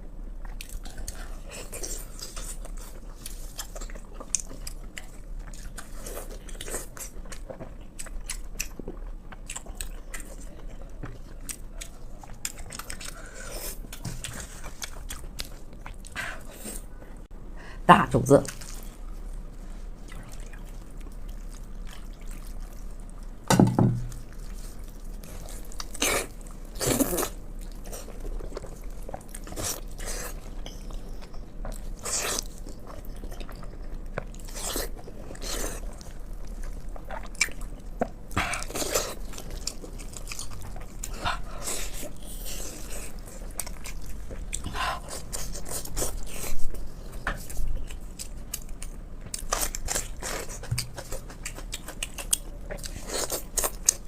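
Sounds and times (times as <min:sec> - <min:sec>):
wet chewing and smacking: 0:00.4 - 0:16.8, 0:18.5 - 0:23.4, 0:24.0 - 0:54.0.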